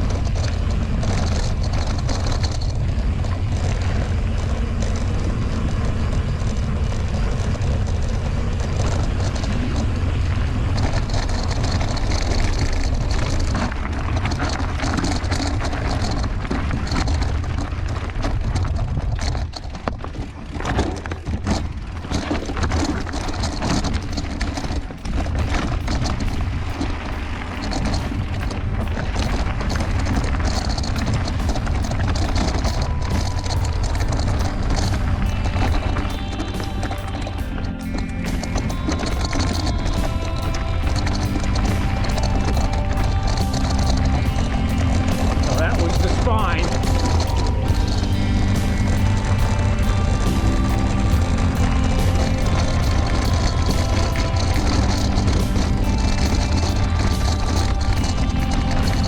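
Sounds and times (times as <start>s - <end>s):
bike clattering over bumps: 0.0s - 59.0s
bike tyre noise: 0.0s - 59.0s
wind rumbling on microphone: 0.0s - 59.0s.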